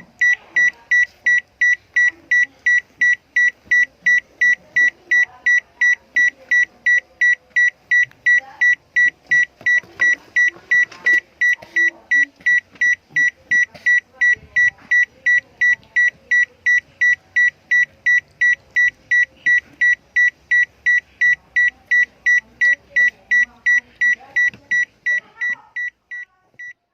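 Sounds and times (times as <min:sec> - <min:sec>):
electronic alarm beeping: 0:00.0 - 0:26.8.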